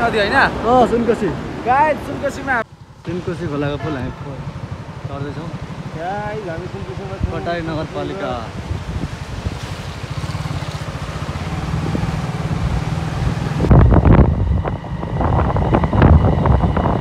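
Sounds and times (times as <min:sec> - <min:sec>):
loud irregular wind gusts: 0:00.0 - 0:17.0
vehicle rumble: 0:00.0 - 0:17.0
wind buffeting microphone: 0:00.0 - 0:17.0.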